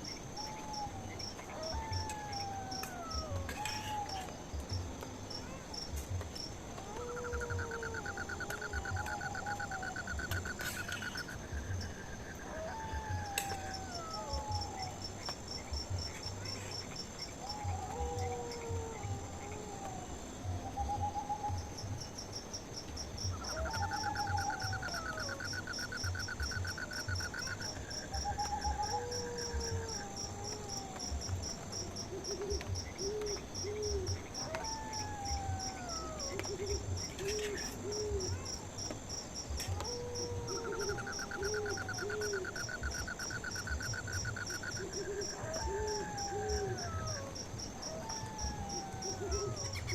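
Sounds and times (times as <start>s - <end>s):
insects chirping: 0.0s - 49.9s
soft hooting calls: 6.7s - 21.8s, 23.3s - 38.6s, 39.5s - 49.9s.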